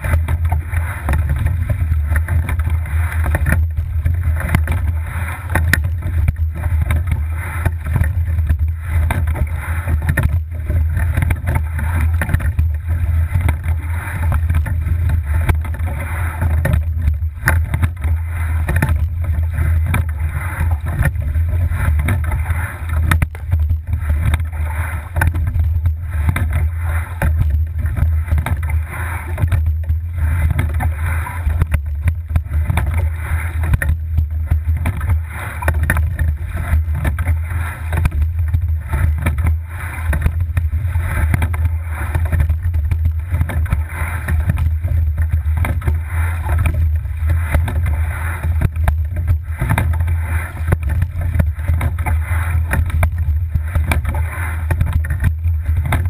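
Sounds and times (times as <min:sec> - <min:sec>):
oars rowing: 0:00.0 - 0:56.0
water rushing along hull: 0:00.0 - 0:56.0
wind rumble on microphone: 0:00.0 - 0:56.0.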